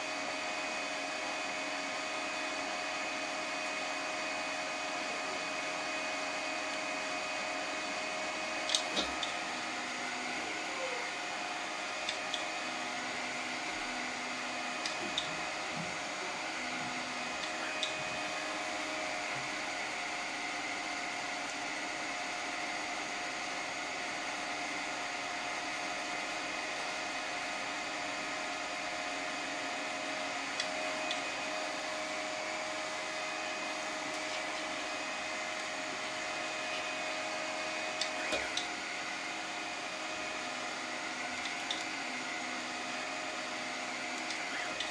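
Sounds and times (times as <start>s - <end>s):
stepper motors whining: 2.2s - 25.5s, 26.1s - 44.9s.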